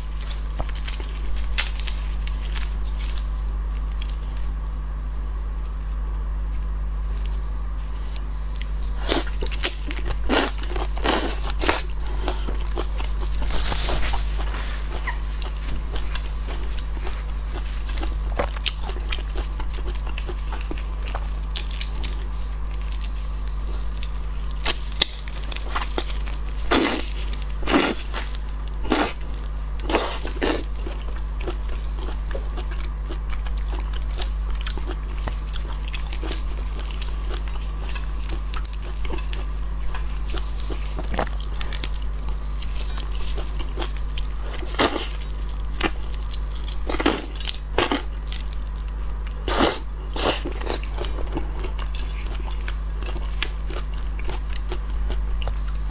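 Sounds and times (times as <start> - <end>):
chewing and biting seafood: 0.0 - 4.6, 7.1 - 55.9
steady low hum: 0.0 - 55.9.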